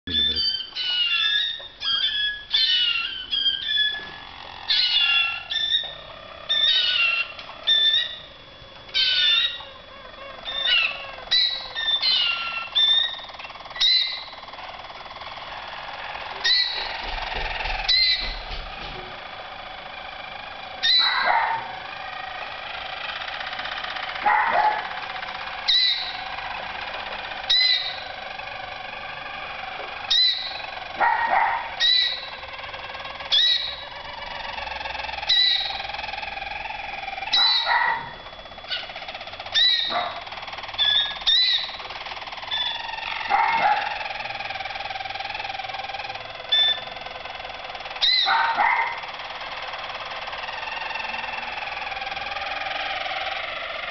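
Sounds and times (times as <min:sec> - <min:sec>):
canaries singing rolling song: 0:00.1 - 0:53.9.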